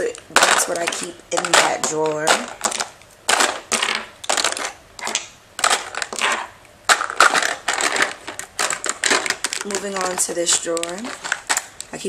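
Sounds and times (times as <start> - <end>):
plastic tubes clattering in drawer: 0.0 - 12.0.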